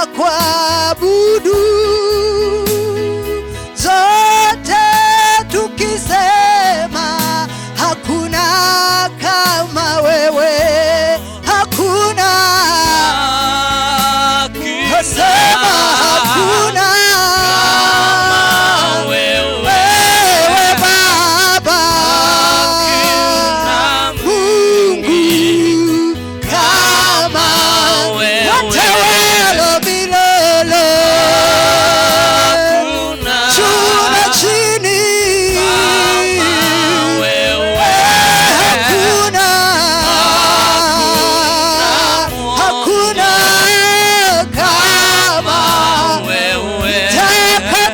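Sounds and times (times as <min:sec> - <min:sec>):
person singing: 0:00.0 - 0:47.9
steady bass line: 0:00.4 - 0:47.9.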